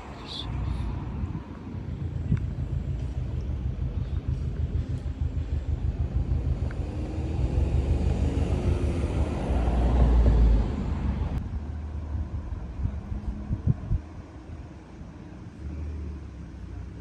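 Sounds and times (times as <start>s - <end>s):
passing motor vehicle rumble: 0.0s - 17.0s.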